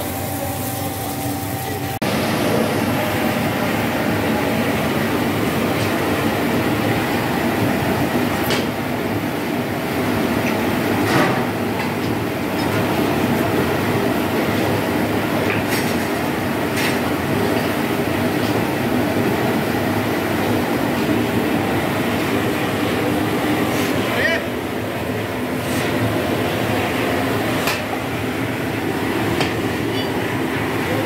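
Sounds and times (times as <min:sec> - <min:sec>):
furnace rumbling rush: 0:00.0 - 0:31.0.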